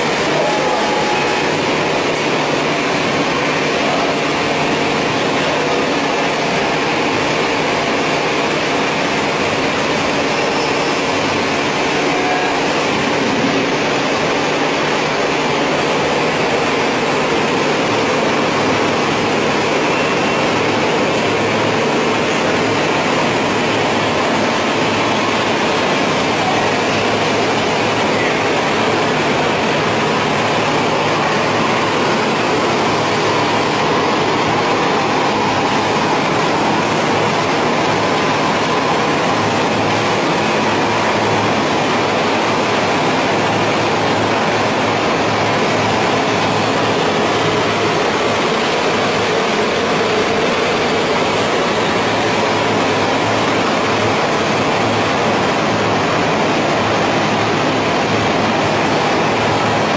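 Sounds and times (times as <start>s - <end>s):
processing machines humming: 0.0s - 59.9s.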